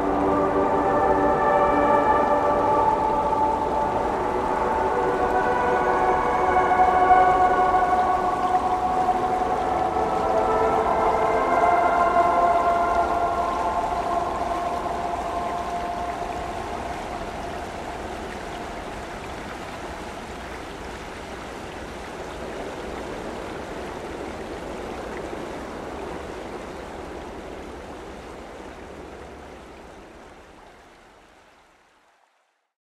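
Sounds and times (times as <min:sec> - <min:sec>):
river rushing: 0:00.0 - 0:32.1.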